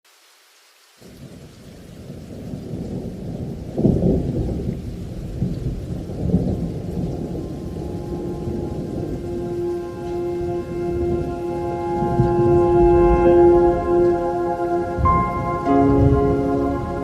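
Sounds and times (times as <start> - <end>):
rain: 0.0 - 17.0
thunder rumbling: 1.0 - 17.0.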